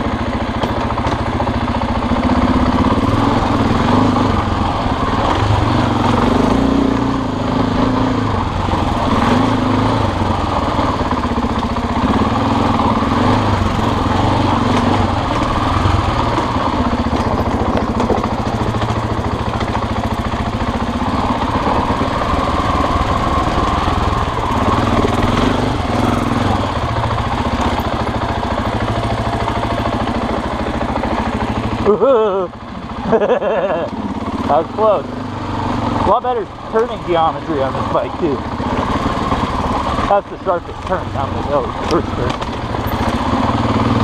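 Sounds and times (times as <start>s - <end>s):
dirt bike engine running: 0.0s - 44.0s.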